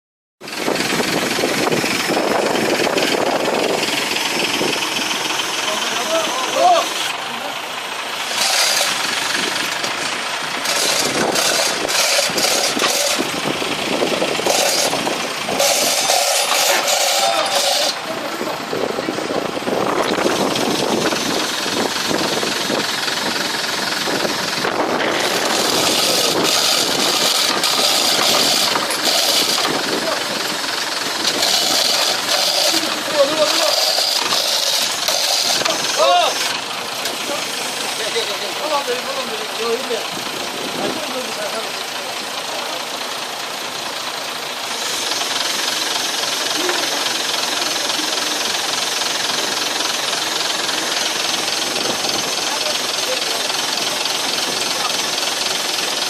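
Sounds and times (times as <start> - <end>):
boat engine clattering: 0.4 - 56.0.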